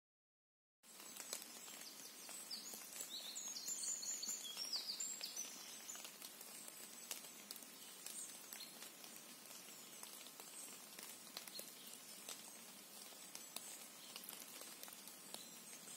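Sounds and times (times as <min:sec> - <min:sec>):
quiet woodland hush: 0:00.8 - 0:15.9
songbird chirping: 0:00.8 - 0:15.9.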